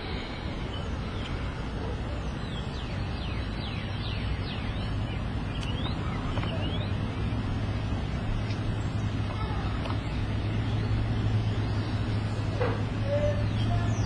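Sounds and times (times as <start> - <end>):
birds whistling and chirping: 0.0 - 7.2, 9.9 - 14.0
background rush: 0.0 - 14.0
low hum: 0.0 - 14.0.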